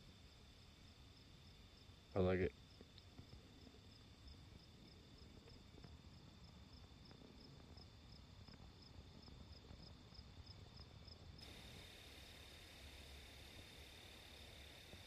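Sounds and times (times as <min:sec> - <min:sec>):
steady hiss: 0:00.0 - 0:06.2, 0:09.1 - 0:15.0
cricket chirping: 0:00.0 - 0:15.0.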